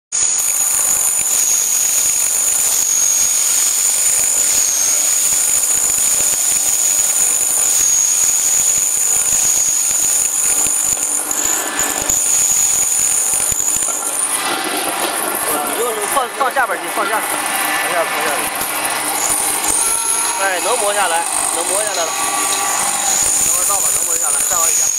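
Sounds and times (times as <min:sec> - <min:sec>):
grinding mill running with whine: 0:00.1 - 0:24.9.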